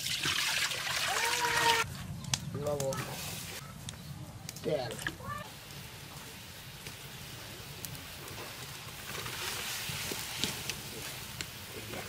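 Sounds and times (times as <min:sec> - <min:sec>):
sharp crackles: 0:01.8 - 0:12.0.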